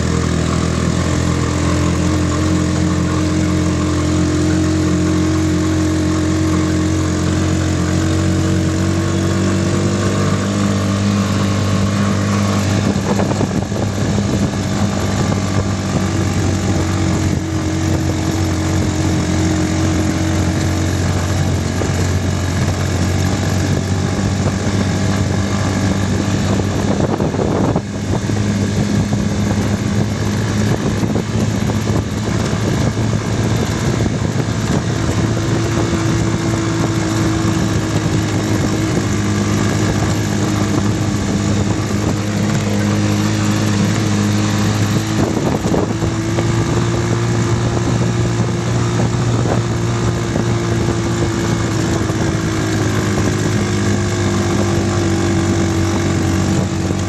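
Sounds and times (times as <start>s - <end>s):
motorcycle engine humming: 0.0s - 57.0s
rough rushing noise: 0.0s - 57.0s.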